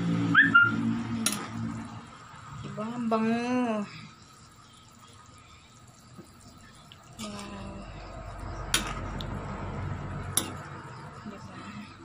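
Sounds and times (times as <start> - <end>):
broth boiling and bubbling: 0.5 - 12.0.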